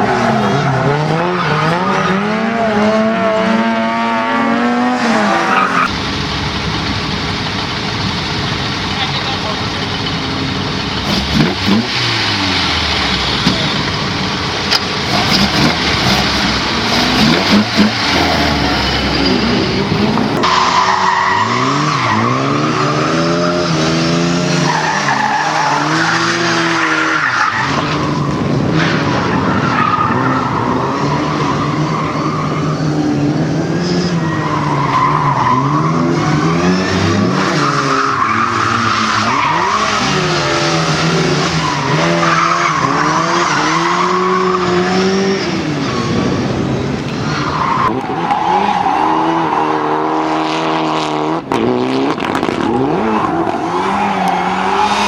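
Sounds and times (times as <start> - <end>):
car engine revving: 0.0 - 55.0
tyres squealing and skidding: 0.0 - 55.0.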